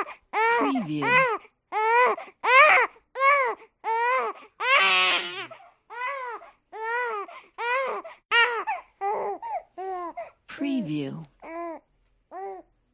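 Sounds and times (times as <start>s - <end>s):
baby crying: 0.0s - 10.3s, 11.4s - 12.7s.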